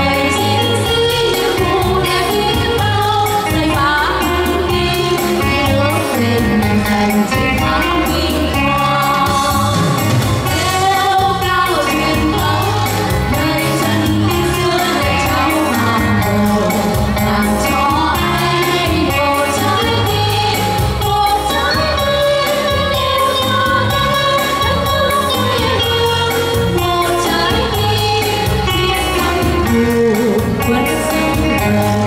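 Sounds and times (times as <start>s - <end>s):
instrumental accompaniment with beat: 0.0s - 32.0s
women singing amplified: 0.0s - 32.0s.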